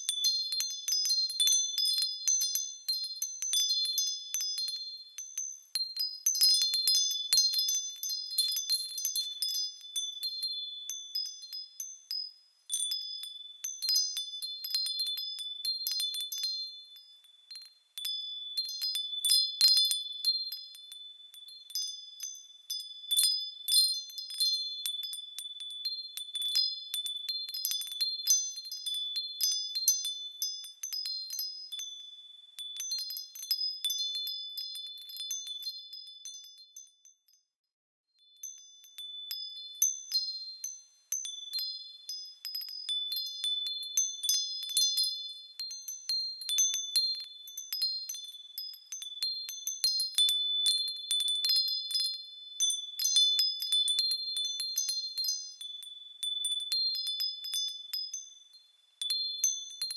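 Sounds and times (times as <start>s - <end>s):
small metal bells ringing: 0.0s - 59.9s.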